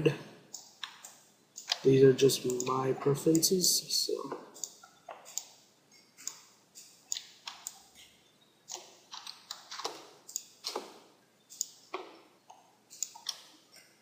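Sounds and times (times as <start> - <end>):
computer mouse and keyboard clicking: 0.5 - 3.6, 4.3 - 8.1, 8.7 - 13.9.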